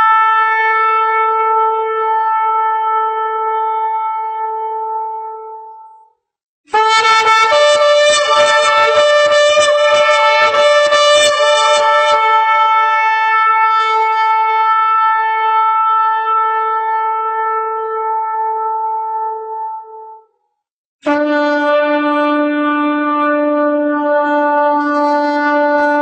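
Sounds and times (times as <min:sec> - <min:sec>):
shofar blasts: 0:00.0 - 0:05.7, 0:06.7 - 0:20.2, 0:21.0 - 0:26.0.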